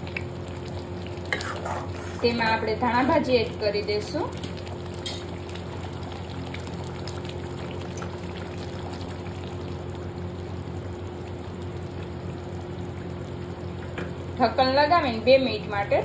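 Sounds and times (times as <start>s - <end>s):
food simmering in a pan: 0.0s - 16.0s.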